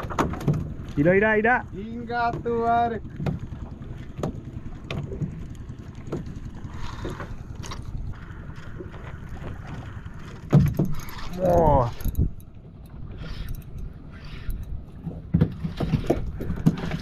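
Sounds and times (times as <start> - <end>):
water moving around boat: 0.0 - 17.0
wind buffeting microphone: 0.0 - 17.0.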